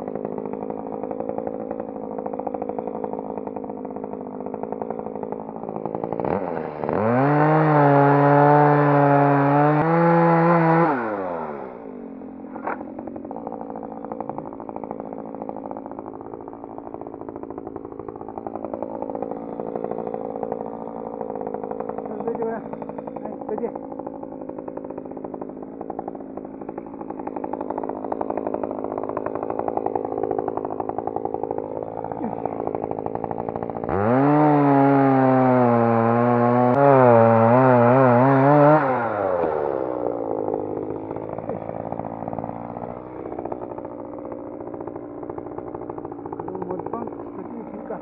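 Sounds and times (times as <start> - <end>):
electric chainsaw cutting: 0.0 - 48.0.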